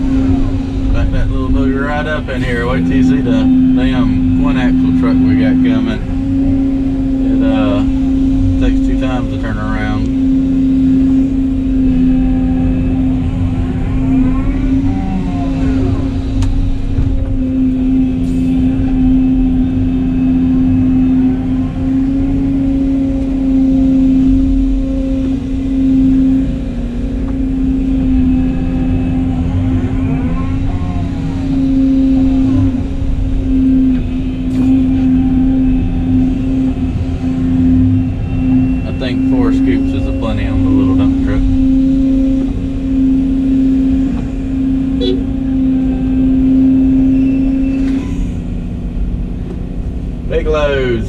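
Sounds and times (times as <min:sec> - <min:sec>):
diesel engine running: 0:00.0 - 0:51.0
hydraulic whine: 0:00.0 - 0:51.0.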